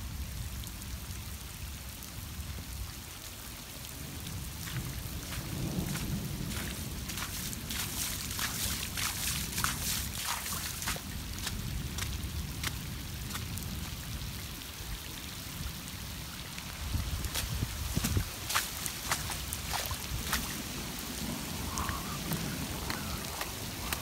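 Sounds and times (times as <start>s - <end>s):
raindrops pattering: 0.0s - 24.0s.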